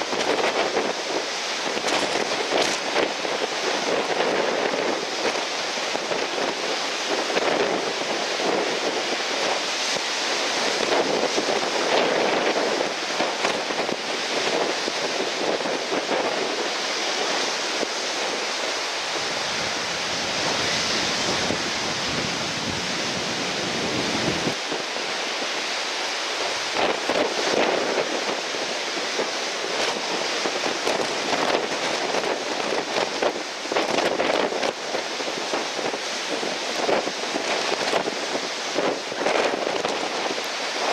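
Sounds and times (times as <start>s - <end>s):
breaking surf: 0.0s - 40.9s
strong wind over microphone: 0.0s - 40.9s.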